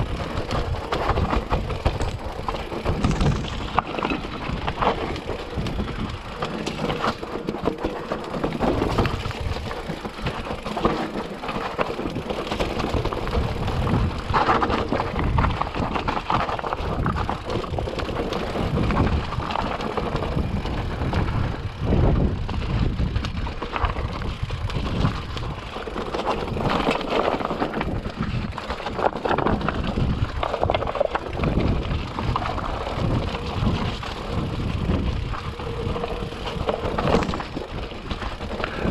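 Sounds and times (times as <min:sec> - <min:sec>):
wind on microphone: 0:00.0 - 0:06.5, 0:12.1 - 0:27.0, 0:27.6 - 0:38.9
tyres crunching over stones: 0:00.0 - 0:21.6, 0:22.5 - 0:38.9
bike clattering: 0:00.0 - 0:38.9.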